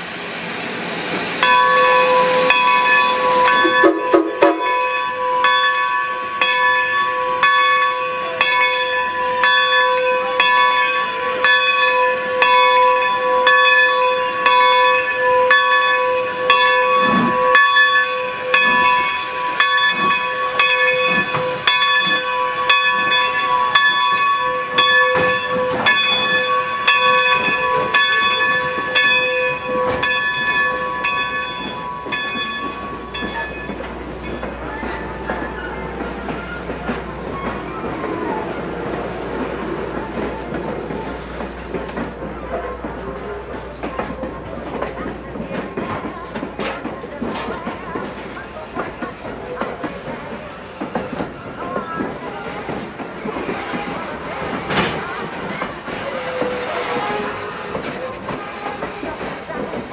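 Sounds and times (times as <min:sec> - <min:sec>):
locomotive bell ringing: 0:01.4 - 0:59.9.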